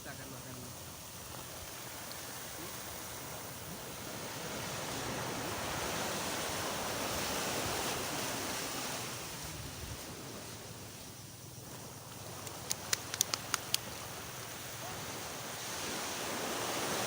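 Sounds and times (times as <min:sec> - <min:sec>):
surf washing onto beach: 0:00.0 - 0:17.0.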